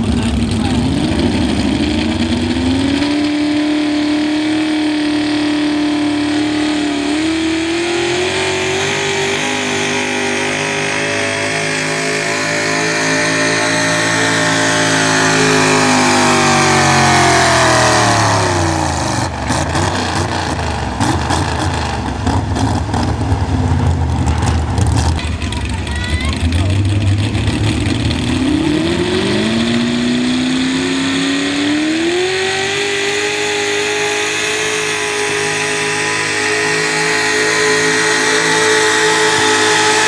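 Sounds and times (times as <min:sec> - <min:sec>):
truck engine revving under load: 0:00.0 - 0:40.0.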